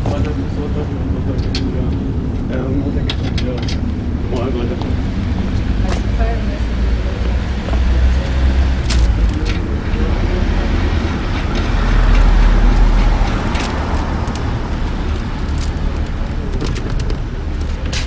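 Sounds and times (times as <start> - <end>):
street traffic rumbling: 0.0 - 18.0
vehicle passing: 0.0 - 18.0.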